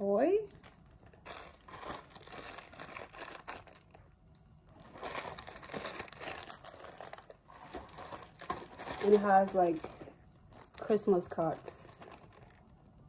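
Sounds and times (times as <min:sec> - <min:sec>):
plastic packaging crinkling: 0:00.2 - 0:04.1, 0:04.7 - 0:12.8.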